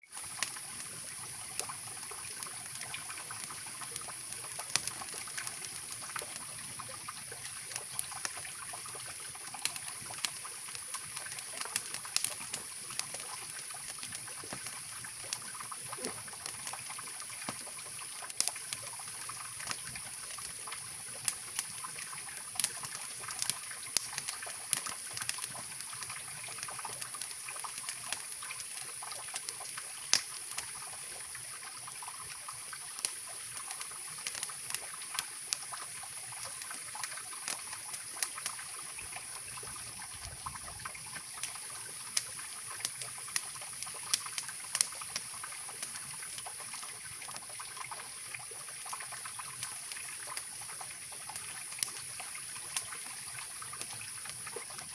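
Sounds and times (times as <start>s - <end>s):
campfire crackling and snapping: 0.1s - 54.9s.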